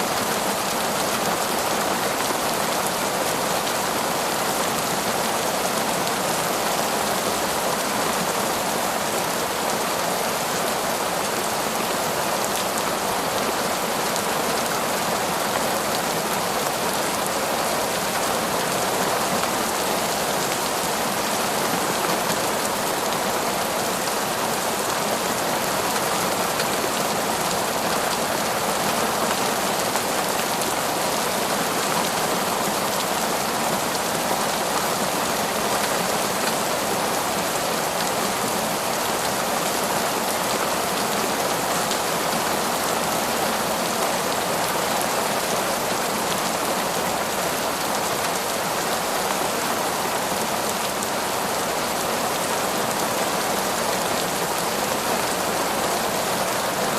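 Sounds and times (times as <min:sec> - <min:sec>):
heavy rain on trees: 0:00.0 - 0:56.9.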